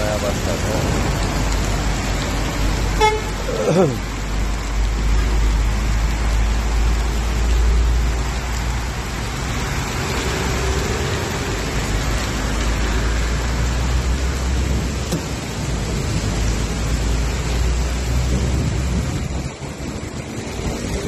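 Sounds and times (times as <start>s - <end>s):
heavy rain and hail: 0.0s - 21.0s.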